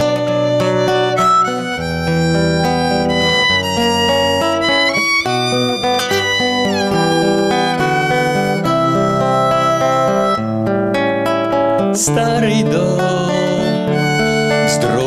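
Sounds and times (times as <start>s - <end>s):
violin melody: 0.0s - 11.1s, 12.7s - 15.0s
guitar accompaniment: 0.0s - 15.0s.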